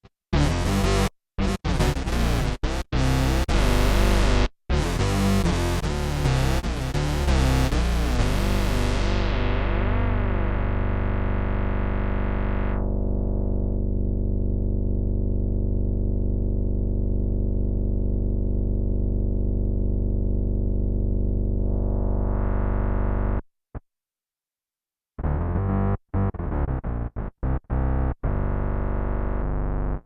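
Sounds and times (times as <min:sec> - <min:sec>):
short bass notes: 0:00.3 - 0:23.4, 0:25.2 - 0:30.0
synth bass note: 0:00.3 - 0:23.4, 0:25.2 - 0:30.0.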